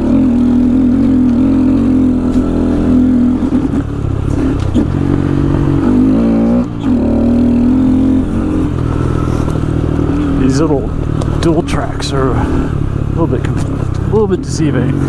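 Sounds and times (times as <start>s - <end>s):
motorcycle engine pulling: 0.0s - 15.0s.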